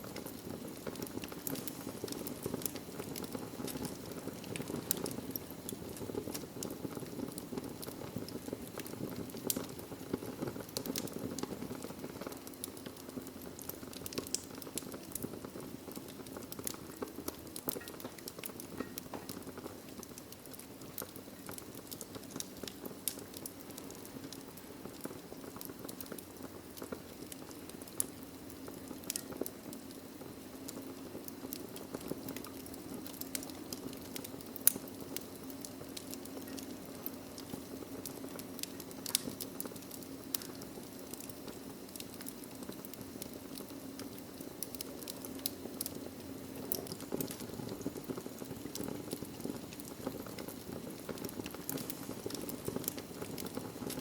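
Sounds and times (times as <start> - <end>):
flames rushing: 0.0 - 54.0
log fire crackling: 0.0 - 54.0.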